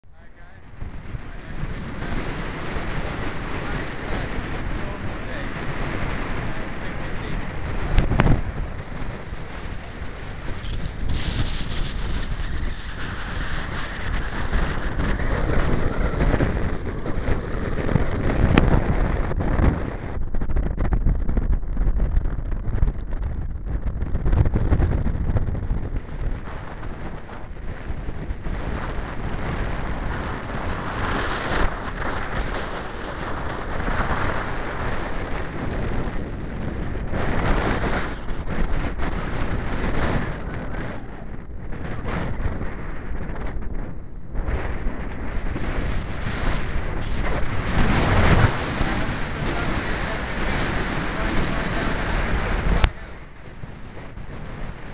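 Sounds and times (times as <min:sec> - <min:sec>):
strong wind buffeting microphone: 0:00.0 - 0:54.9.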